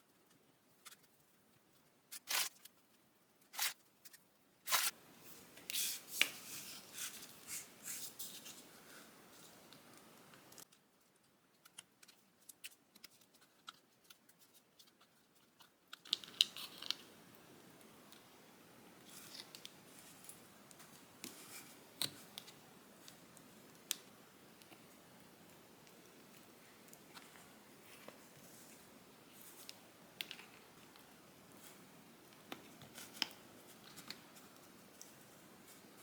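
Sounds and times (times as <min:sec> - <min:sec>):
rustling and scraping handling: 0:00.2 - 0:17.1, 0:19.0 - 0:23.3, 0:24.6 - 0:36.0.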